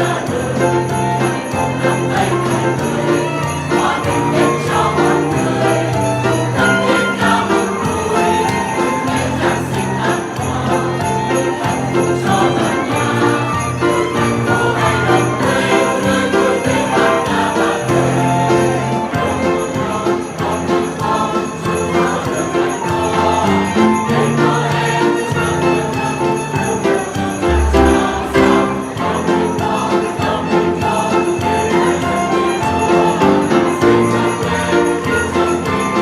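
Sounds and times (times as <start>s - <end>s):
sleigh bells jingling: 0.0s - 36.0s.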